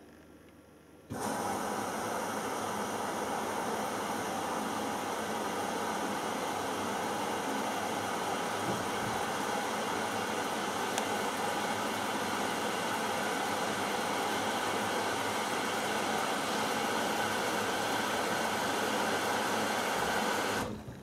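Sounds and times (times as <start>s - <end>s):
washing machine filling with water: 1.1s - 21.0s.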